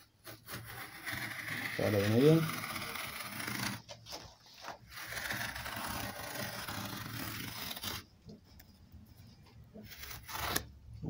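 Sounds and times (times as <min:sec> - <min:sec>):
blade cutting leather: 0:00.0 - 0:08.1, 0:09.8 - 0:10.7.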